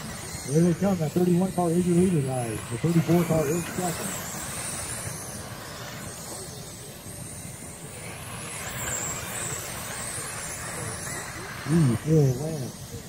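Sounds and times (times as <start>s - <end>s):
rc car motors whining: 0.0s - 13.0s
steady rush of noise: 0.0s - 13.0s.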